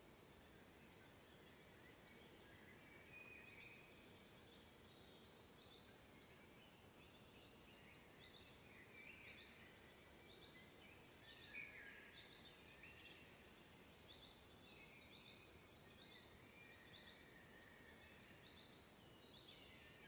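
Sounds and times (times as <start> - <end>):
soft bird chirping: 0.0 - 20.0.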